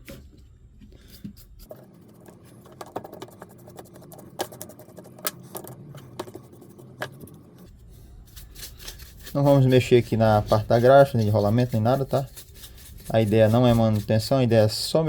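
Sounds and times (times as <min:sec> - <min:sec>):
paintbrush scratchy strokes: 0:01.0 - 0:05.2, 0:06.0 - 0:14.9.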